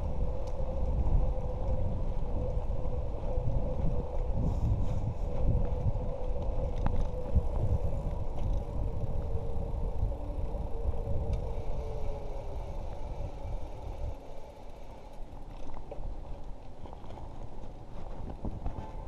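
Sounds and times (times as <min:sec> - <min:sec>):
bicycle tyre noise: 0:00.0 - 0:19.0
faint steady hum: 0:00.0 - 0:19.0
wind buffeting microphone: 0:00.0 - 0:19.0.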